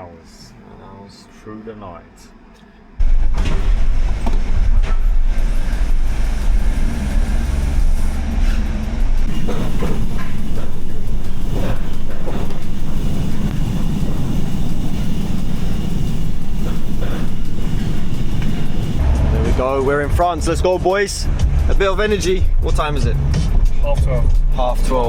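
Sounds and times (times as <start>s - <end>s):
van engine rumble: 3.0s - 23.4s.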